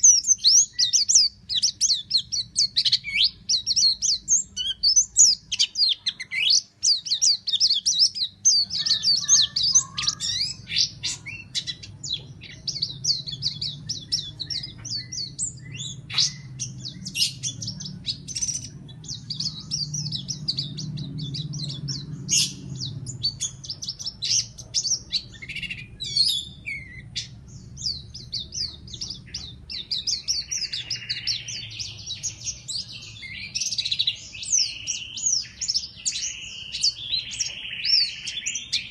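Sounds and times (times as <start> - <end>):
low steady hum: 0.0 - 36.0
bird singing high chirps and trills: 0.0 - 38.9
lower bird warbling: 0.0 - 38.9.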